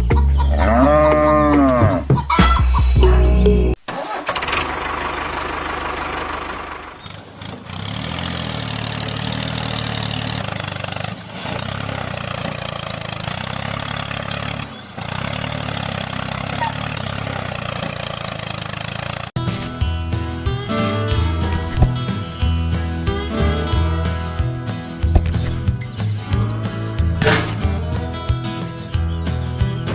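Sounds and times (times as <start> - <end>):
small truck engine running: 3.4 - 29.9.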